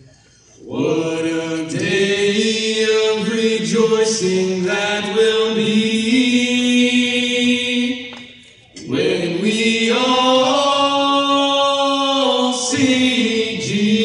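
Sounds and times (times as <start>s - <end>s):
two men singing in harmony: 0.6s - 14.0s.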